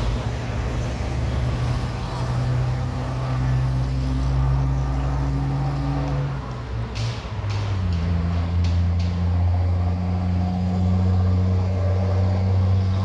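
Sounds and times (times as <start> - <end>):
faint traffic noise: 0.0 - 13.0
vehicle engine humming: 0.0 - 13.0.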